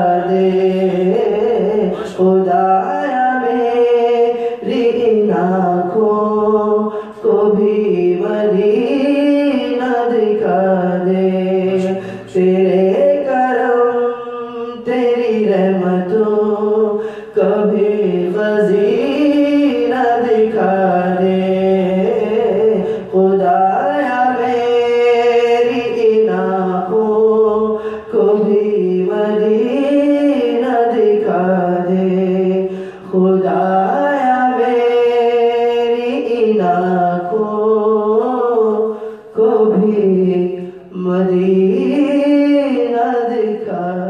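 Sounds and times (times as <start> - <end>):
man singing: 0.0 - 44.0.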